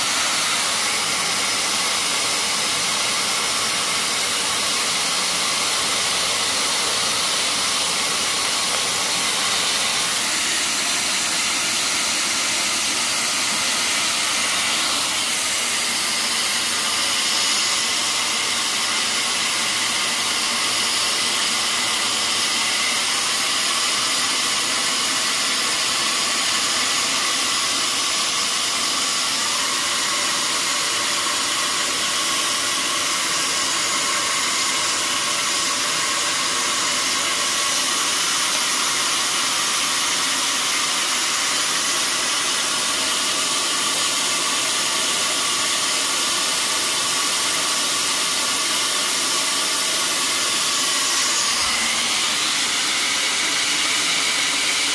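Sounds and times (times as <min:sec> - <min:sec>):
blower motor hissing: 0:00.0 - 0:54.9.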